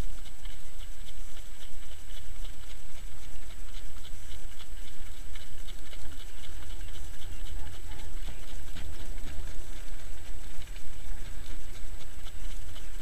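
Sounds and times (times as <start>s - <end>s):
horse hooves trotting on sand: 0.0s - 13.0s
wind rumble on microphone: 0.0s - 13.0s.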